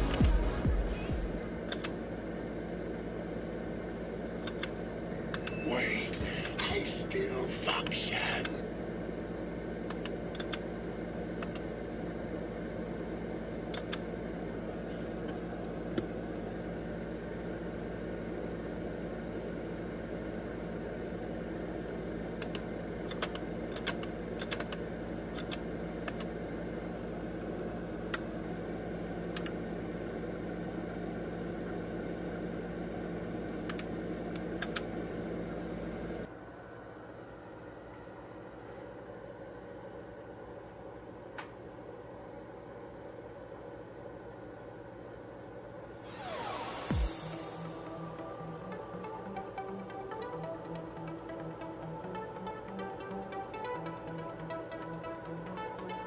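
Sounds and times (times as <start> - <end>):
computer humming: 0.0 - 56.0.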